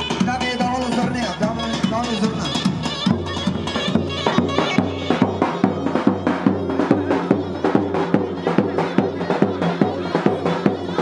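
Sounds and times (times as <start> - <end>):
drum beat: 0.0 - 11.0
wind instrument folk melody: 0.0 - 11.0.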